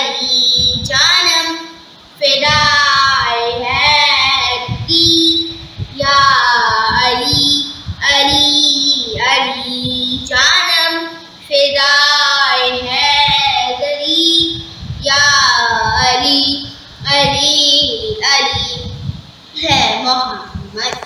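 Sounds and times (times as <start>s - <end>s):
girl singing unaccompanied: 0.0s - 21.0s.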